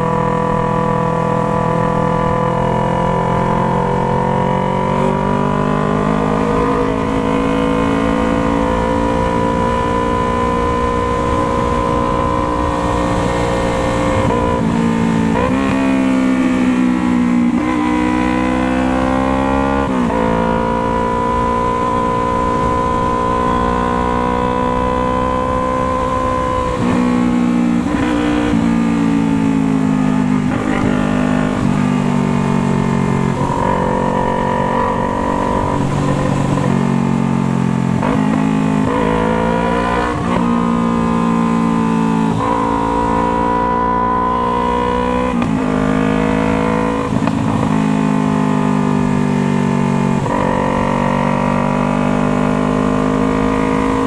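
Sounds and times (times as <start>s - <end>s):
motorcycle engine under load: 0.0s - 54.0s.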